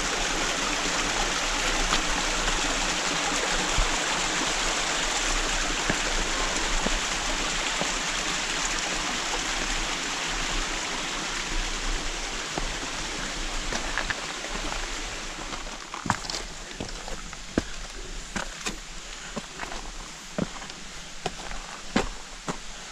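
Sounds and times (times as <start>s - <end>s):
brook water rushing over rock: 0.0s - 22.9s.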